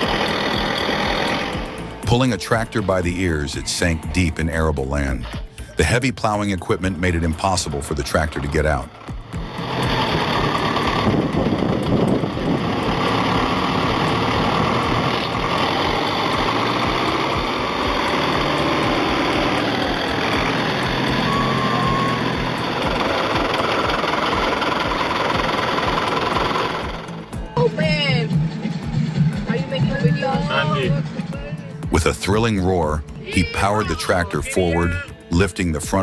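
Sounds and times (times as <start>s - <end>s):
tractor engine running under load: 0.0s - 36.0s.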